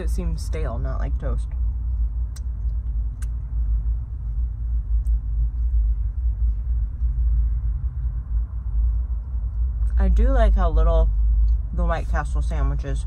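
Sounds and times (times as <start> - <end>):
car idling: 0.0 - 13.0.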